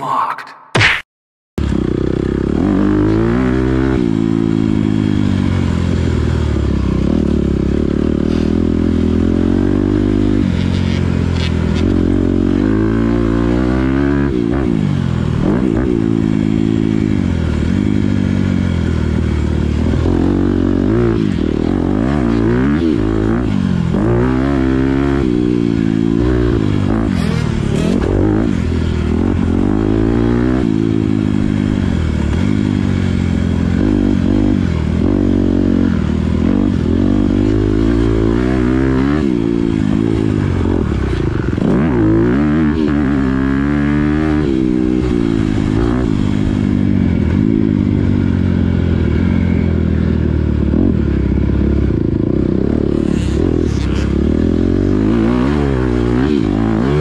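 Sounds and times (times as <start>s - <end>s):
motocross bike engine revving: 1.6s - 57.0s.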